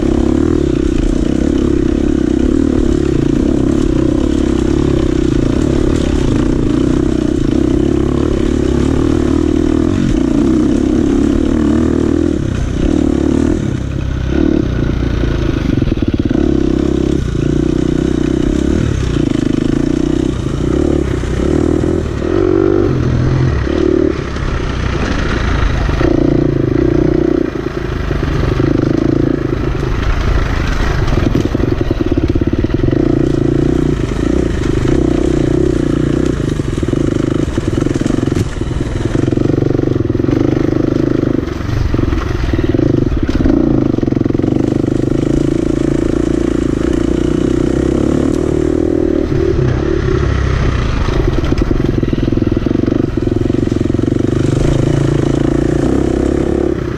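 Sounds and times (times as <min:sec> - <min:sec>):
dirt bike engine running hard: 0:00.0 - 0:56.9.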